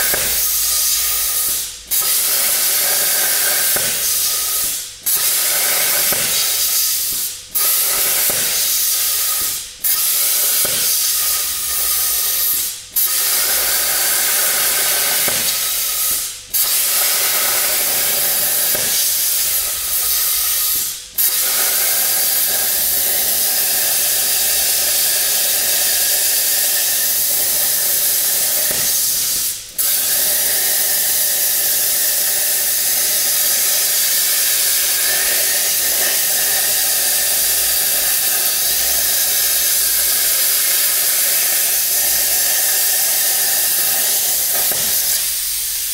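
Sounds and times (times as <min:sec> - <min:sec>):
plasma cutter hissing: 0:00.0 - 0:45.9.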